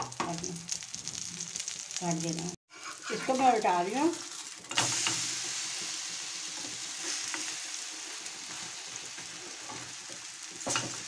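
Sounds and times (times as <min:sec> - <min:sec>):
pancake sizzling in oil: 0:00.0 - 0:11.0.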